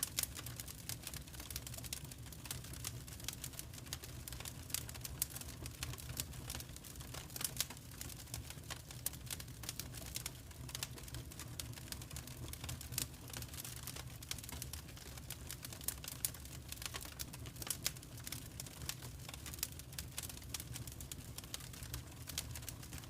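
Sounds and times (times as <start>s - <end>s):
low rumble of burning: 0.0s - 23.0s
wood fire crackling: 0.0s - 23.0s.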